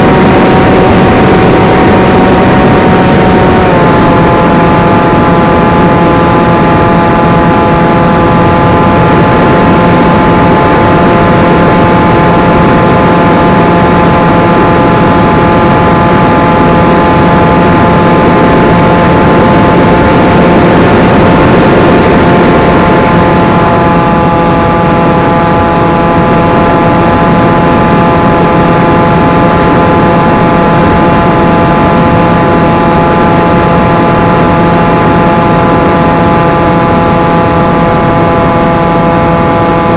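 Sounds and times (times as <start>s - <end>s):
electric motor propeller whine: 0.0s - 39.9s
wind rush over microphone: 0.0s - 39.9s.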